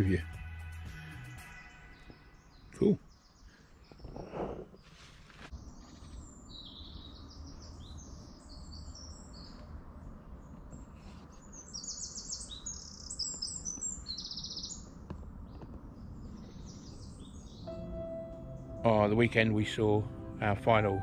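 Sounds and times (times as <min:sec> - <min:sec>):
small birds chirping: 0:01.2 - 0:20.0.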